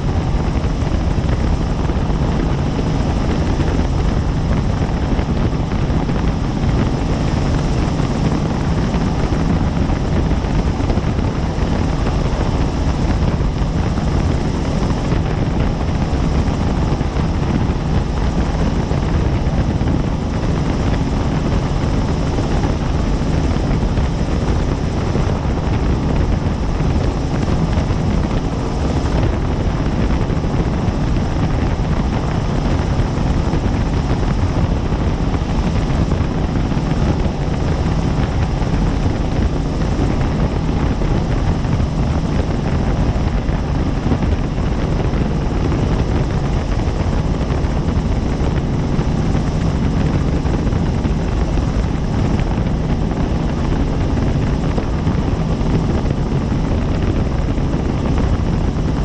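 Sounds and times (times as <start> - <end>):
helicopter droning: 0.0 - 59.0.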